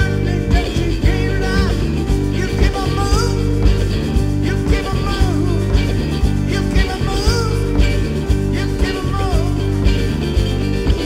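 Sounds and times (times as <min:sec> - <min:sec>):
bending guitar melody: 0:00.0 - 0:11.0
live rock band playing: 0:00.0 - 0:11.0.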